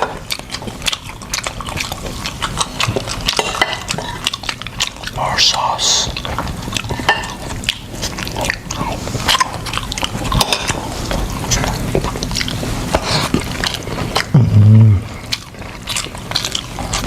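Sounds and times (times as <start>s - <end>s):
chewing and biting: 0.0s - 5.2s, 5.9s - 17.0s.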